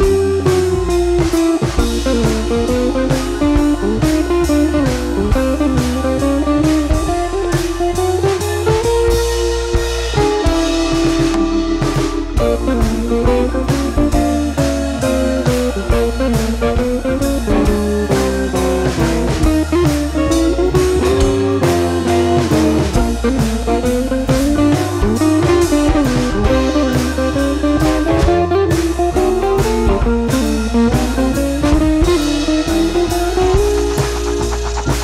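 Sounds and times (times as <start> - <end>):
drum beat: 0.0 - 35.0
guitar melody: 0.0 - 35.0.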